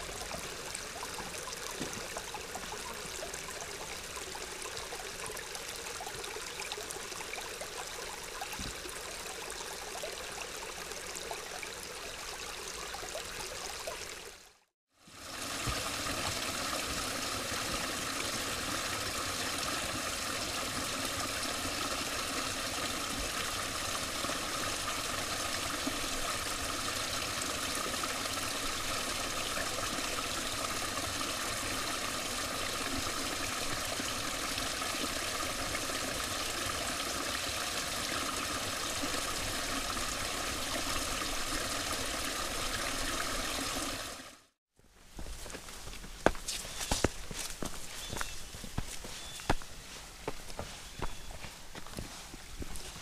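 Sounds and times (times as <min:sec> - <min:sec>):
creek water trickling over rocks: 0:00.0 - 0:53.0.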